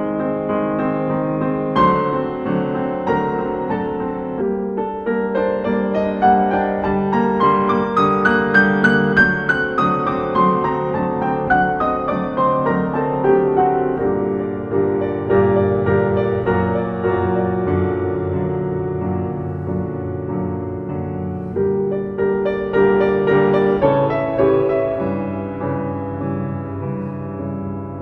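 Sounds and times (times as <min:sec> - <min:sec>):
slow piano melody: 0:00.0 - 0:28.0.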